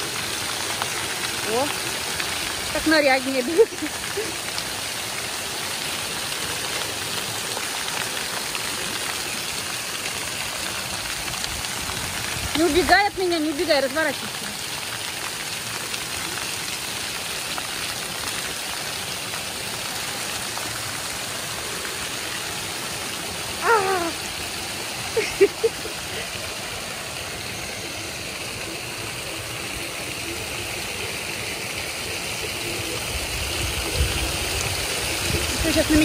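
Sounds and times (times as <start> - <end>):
fountain jets splashing on paving: 0.0 - 36.0.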